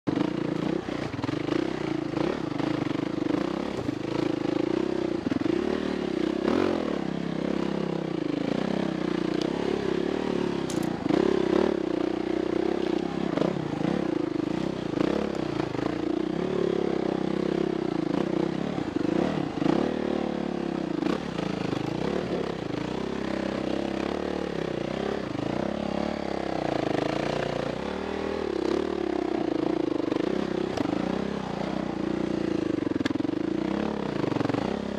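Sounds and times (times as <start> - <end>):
off-road motorcycle engine revving: 0.1 - 34.9.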